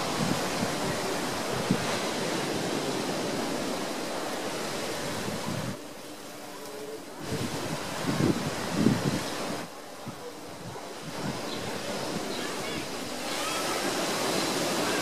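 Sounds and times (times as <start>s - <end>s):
waves breaking on a beach: 0.0s - 15.0s.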